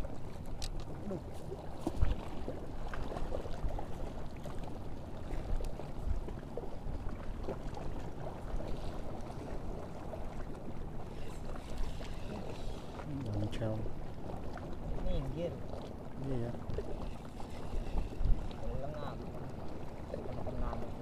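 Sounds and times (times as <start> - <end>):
water lapping: 0.0 - 21.0
wind: 0.0 - 21.0.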